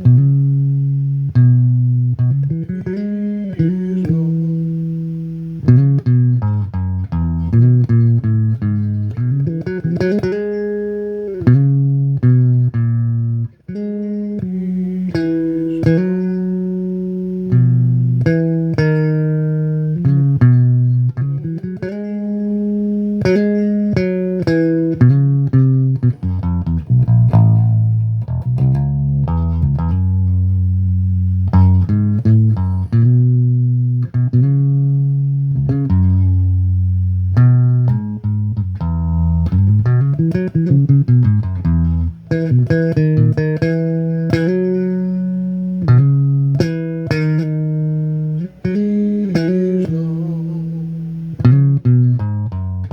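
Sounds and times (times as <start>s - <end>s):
electric bass guitar solo: 0.0s - 52.9s.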